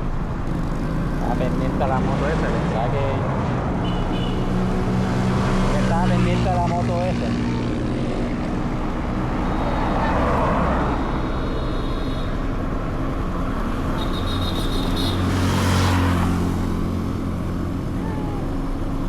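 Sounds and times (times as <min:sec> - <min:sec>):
road and traffic noise: 0:00.0 - 0:19.0.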